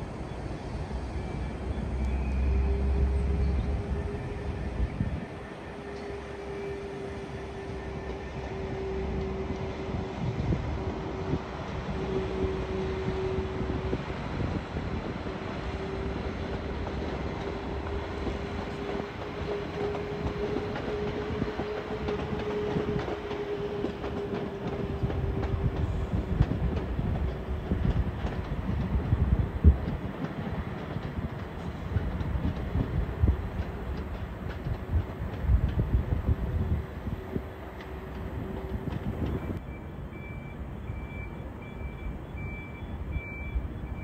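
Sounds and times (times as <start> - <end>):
diesel train rumbling: 0.0 - 44.0.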